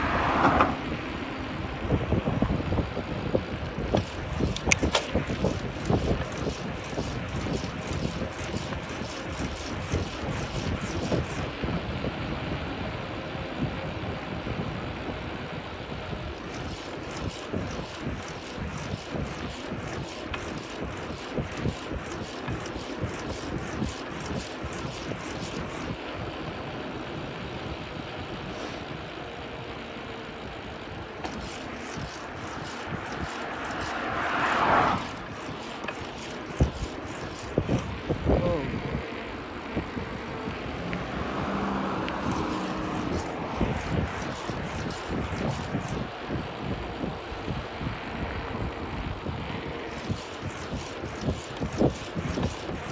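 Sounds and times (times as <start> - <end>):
wind buffeting microphone: 0.0 - 26.3, 31.3 - 52.9
bicycle tyres rumbling: 0.0 - 52.9.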